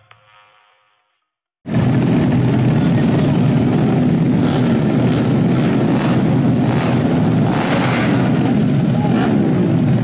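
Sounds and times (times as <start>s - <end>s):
motorcycle engines revving: 1.7s - 10.0s.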